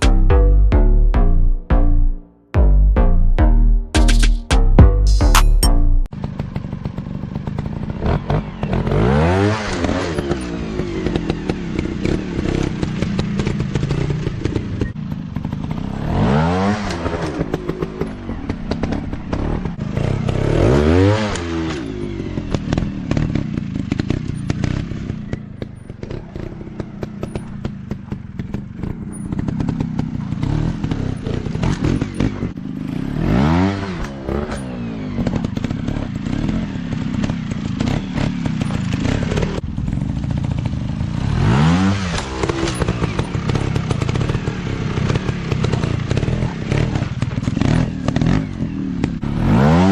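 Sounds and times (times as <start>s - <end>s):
dirt bike engines revving: 6.3s - 49.9s.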